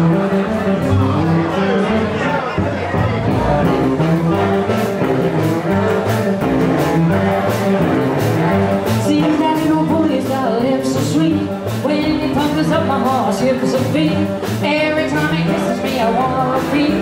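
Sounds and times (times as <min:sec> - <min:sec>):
drums keeping a steady beat: 0:00.0 - 0:17.0
upright bass line: 0:00.0 - 0:17.0.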